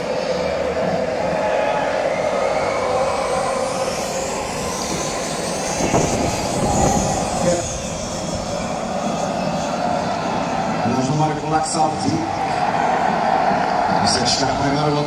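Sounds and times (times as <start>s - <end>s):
murmur of outdoor crowd: 0.0s - 15.0s
zipline trolley whirring on cable: 0.0s - 15.0s.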